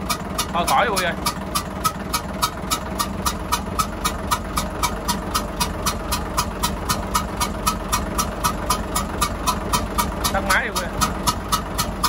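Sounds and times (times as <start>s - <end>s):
diesel engine idling: 0.0s - 12.0s
sharp regular engine tick: 0.0s - 12.0s.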